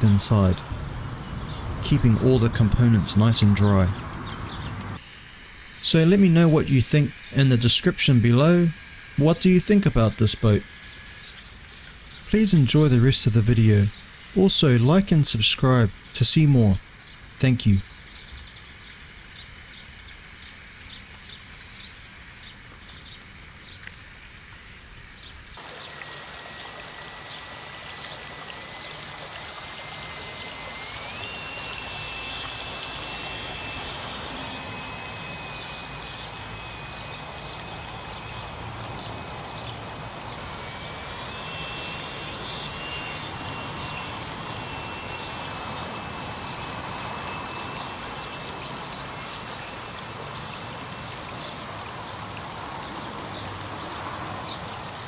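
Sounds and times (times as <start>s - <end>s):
small electric motor whine: 0.0s - 15.0s, 25.5s - 55.0s
outdoor hiss: 0.0s - 55.0s.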